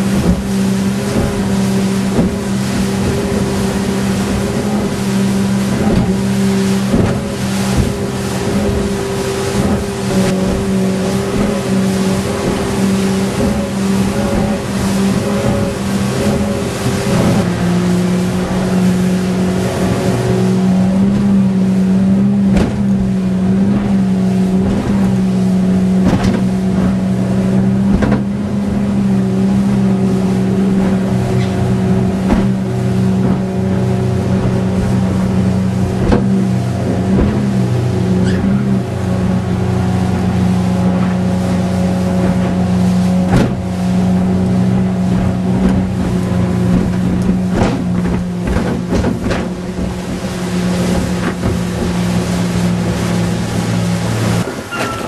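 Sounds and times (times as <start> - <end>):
hull thumping on waves: 0.0 - 55.0
outboard motor running: 0.0 - 55.0.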